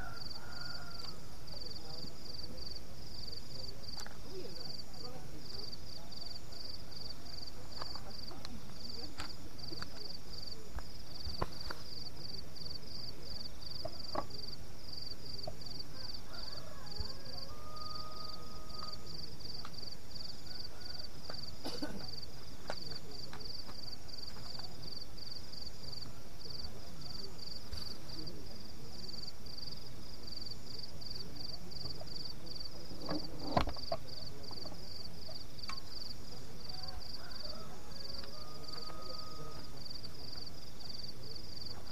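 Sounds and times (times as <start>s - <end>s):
insect chirping: 0.0s - 41.9s.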